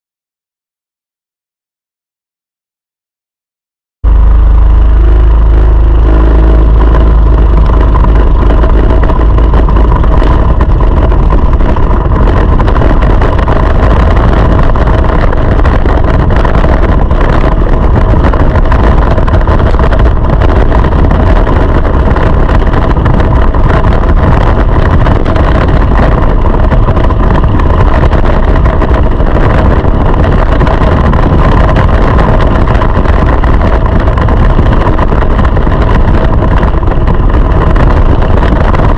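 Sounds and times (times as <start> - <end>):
go-kart engine running: 4.1 - 38.9.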